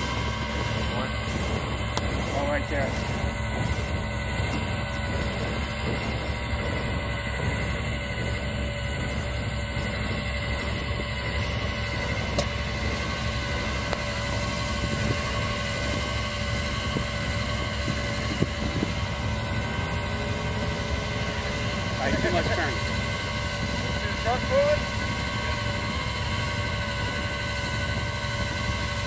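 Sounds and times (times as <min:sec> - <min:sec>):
wind rumble on microphone: 0:00.0 - 0:24.2
steady whine: 0:00.0 - 0:29.0
tow truck engine running: 0:00.0 - 0:29.0.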